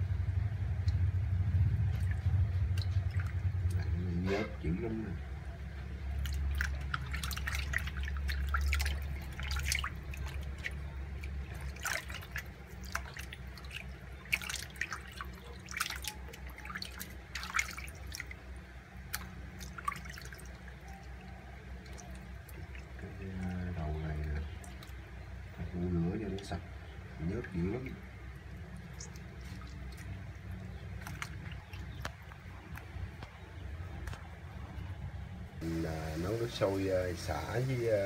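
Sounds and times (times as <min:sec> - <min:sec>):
water splashing in a metal basin: 0:00.8 - 0:33.4.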